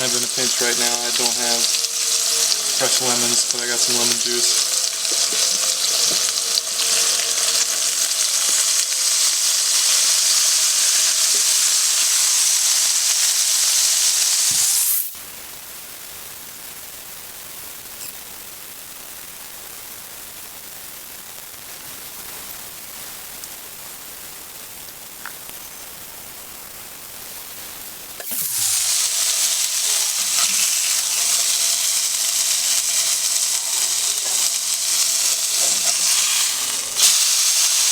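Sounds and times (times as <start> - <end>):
faint steady hiss: 0.0 - 37.9
fish sizzling in hot oil: 0.0 - 37.9.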